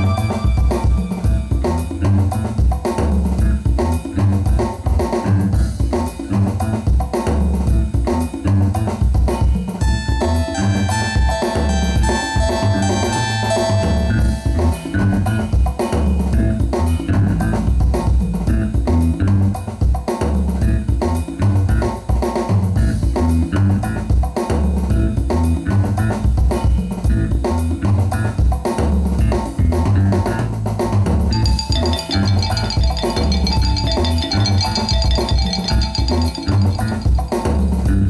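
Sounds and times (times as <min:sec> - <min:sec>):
bass and guitar: 0:00.0 - 0:38.0
drum kit beat: 0:00.0 - 0:38.0.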